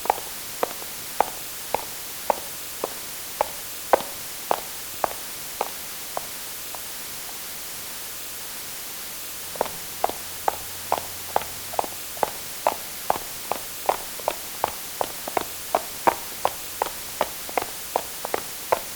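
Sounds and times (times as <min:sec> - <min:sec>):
footsteps walking: 0:00.0 - 0:06.9, 0:09.5 - 0:18.9
steady hiss: 0:00.0 - 0:18.9.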